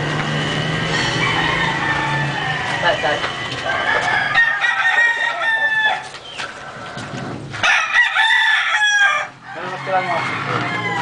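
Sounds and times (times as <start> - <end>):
rooster crowing: 0.7 - 6.2, 6.9 - 11.0.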